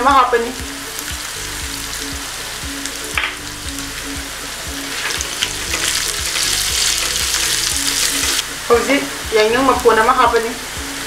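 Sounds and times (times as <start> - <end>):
background music with steady beat: 0.0 - 11.0
food sizzling in a wok: 0.0 - 11.0.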